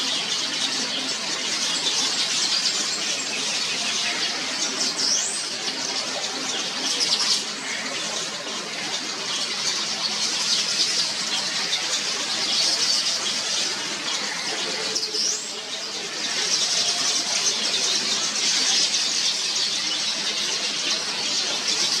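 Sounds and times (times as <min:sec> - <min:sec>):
weaver birds chattering: 0:00.0 - 0:22.0.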